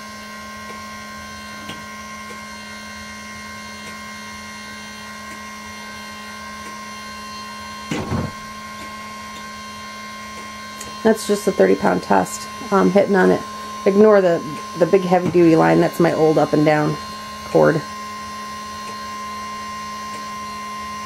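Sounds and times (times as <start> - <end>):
electric motor humming: 0.0 - 21.0.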